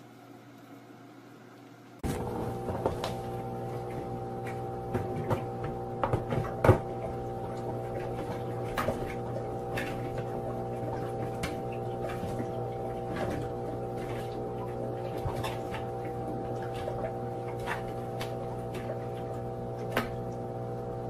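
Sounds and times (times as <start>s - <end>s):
humidifier fan humming: 0.0s - 21.0s.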